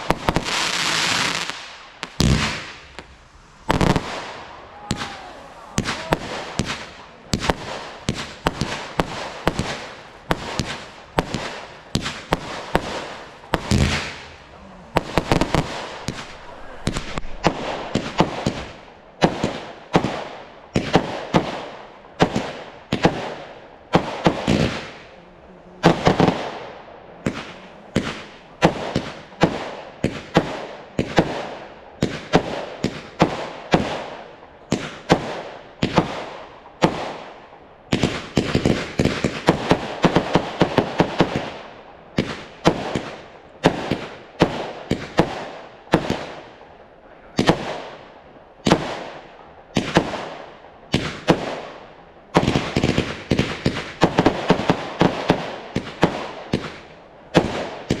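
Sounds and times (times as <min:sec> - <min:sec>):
fireworks bursts with crackling: 0:00.0 - 0:58.0.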